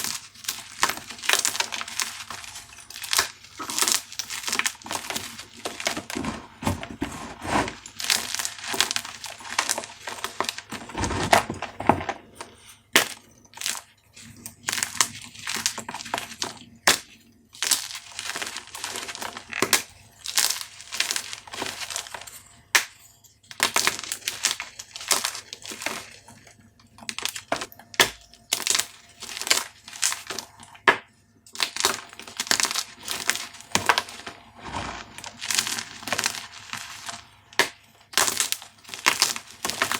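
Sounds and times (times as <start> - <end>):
chalk cubes crushed by hand: 0.0 - 12.3, 13.0 - 26.4, 27.0 - 31.0, 31.6 - 39.9.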